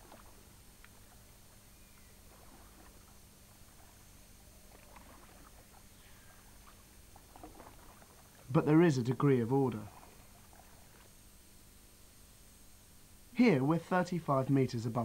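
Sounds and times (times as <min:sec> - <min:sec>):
steady hiss and low hum: 0:00.0 - 0:15.0.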